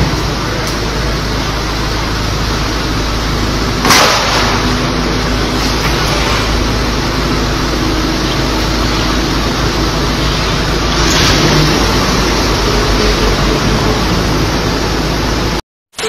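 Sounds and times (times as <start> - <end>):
car engine pulling away: 0.0 - 15.6
loud steady hiss: 0.0 - 16.0.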